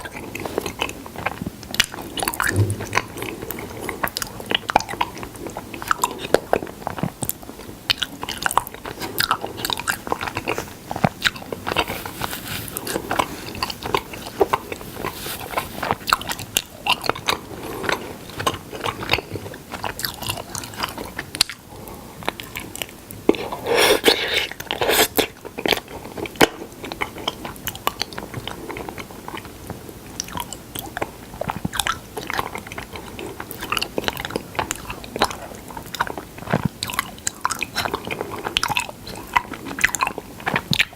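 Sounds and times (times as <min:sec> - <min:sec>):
person chewing honey: 0:00.0 - 0:40.9.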